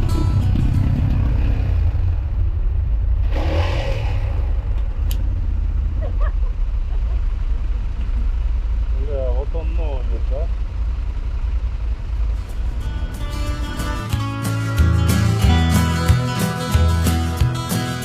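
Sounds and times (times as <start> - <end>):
vehicle motor rumbling: 0.0 - 18.0.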